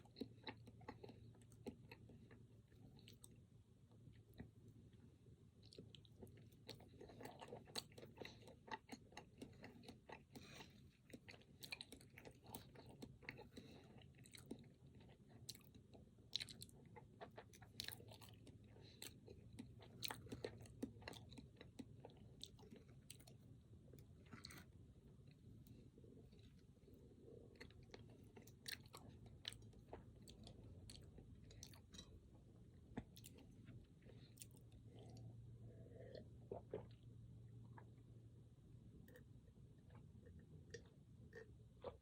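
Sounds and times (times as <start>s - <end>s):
chewing snack cake: 0.0s - 42.0s.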